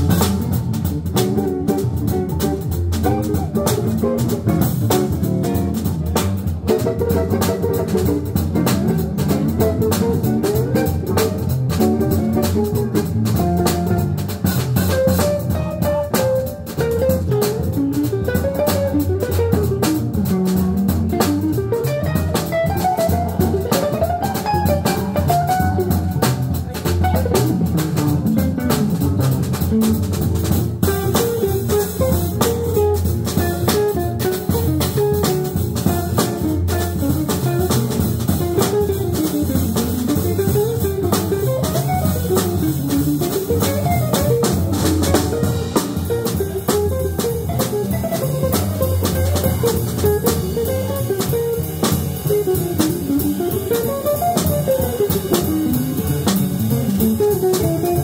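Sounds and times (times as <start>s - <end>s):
drum kit cymbals: 0.0s - 58.0s
jazz guitar solo: 0.0s - 58.0s
plucked upright bass: 0.0s - 58.0s.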